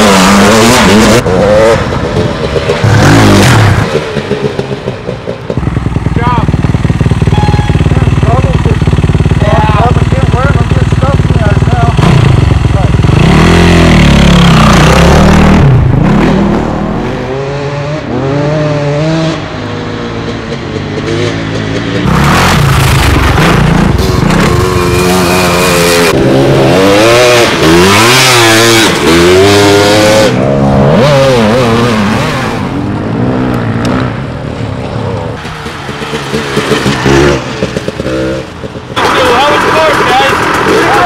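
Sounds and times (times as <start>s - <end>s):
dirt bike engines revving: 0.0s - 41.0s.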